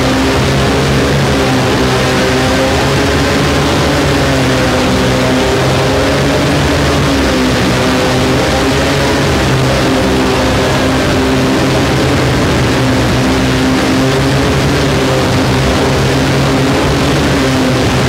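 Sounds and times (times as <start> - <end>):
distorted electric guitar drone: 0.0 - 18.0.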